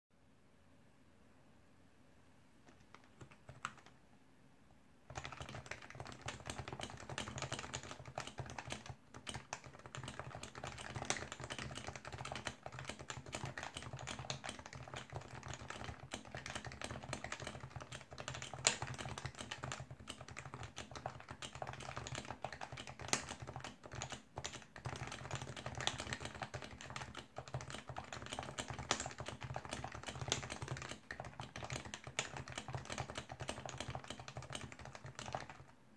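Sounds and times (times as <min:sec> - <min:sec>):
fast keyboard typing: 0:02.7 - 0:04.0, 0:05.1 - 0:35.8.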